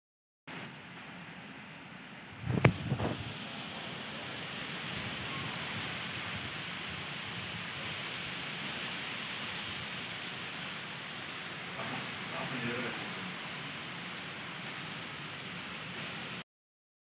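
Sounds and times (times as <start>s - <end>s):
heavy rain falling: 0.5s - 16.4s.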